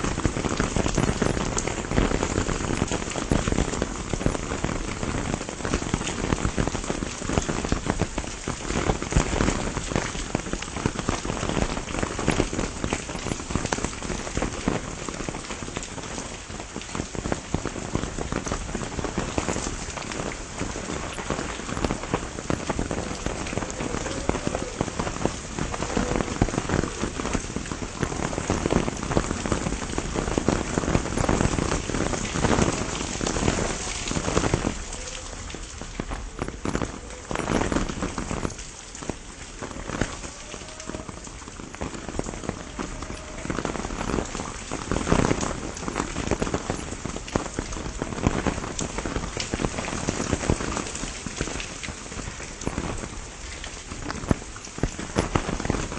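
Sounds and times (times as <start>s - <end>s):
heavy rain on leaves: 0.0s - 55.9s.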